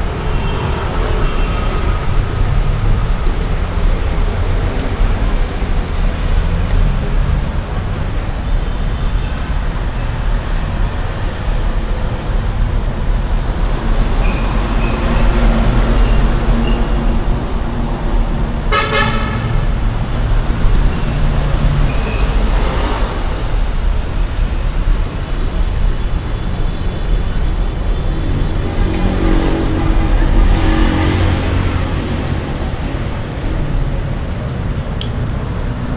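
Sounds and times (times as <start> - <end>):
traffic engines rumbling: 0.0 - 35.9.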